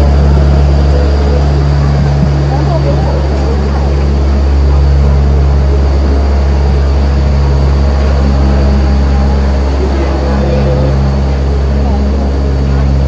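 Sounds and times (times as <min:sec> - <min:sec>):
tram motor droning: 0:00.0 - 0:13.0.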